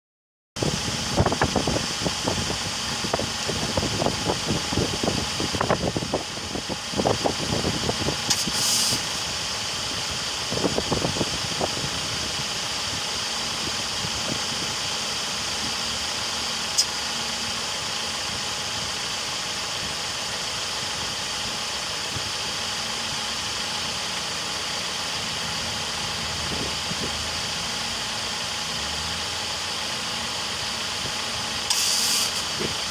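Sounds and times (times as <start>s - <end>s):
car engine idling: 0.6s - 32.9s.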